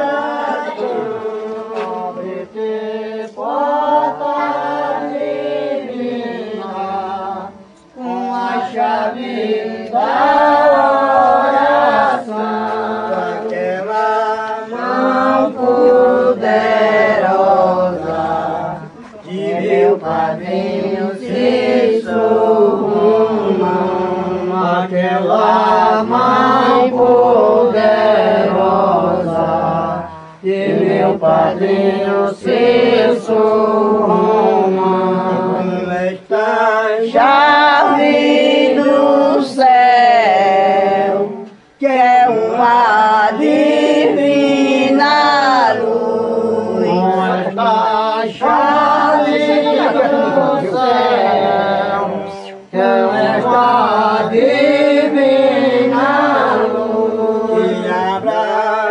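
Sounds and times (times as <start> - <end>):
people chanting a hymn: 0.0 - 58.9.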